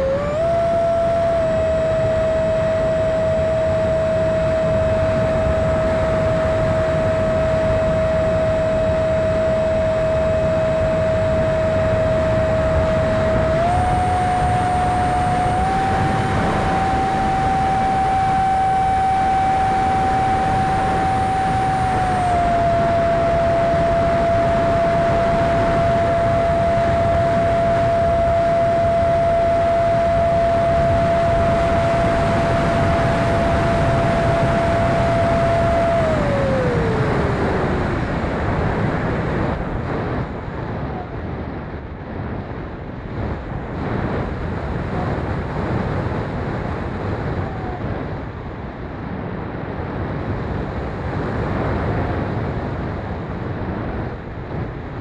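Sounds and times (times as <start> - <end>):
electric ducted fan whine: 0.0 - 55.0
wind rush on microphone: 0.0 - 55.0.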